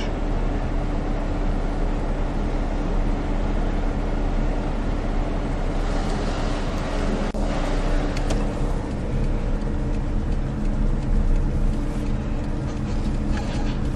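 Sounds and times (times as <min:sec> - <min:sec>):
car engine humming: 0:00.0 - 0:13.9.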